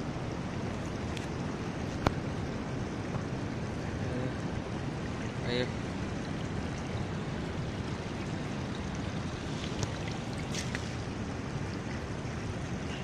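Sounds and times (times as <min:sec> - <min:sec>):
river flowing over stones: 0:00.0 - 0:13.0.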